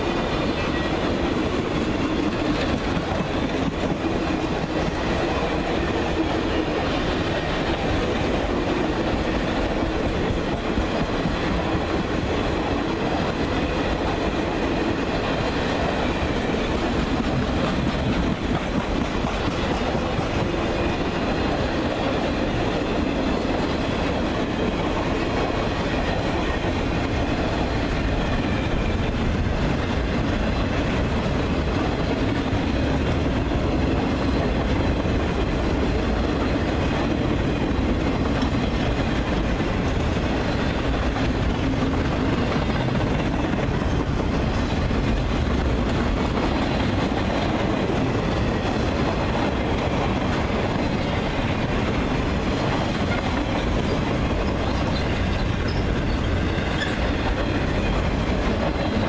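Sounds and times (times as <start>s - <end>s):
freight train wheels rolling on rail: 0.0s - 59.0s.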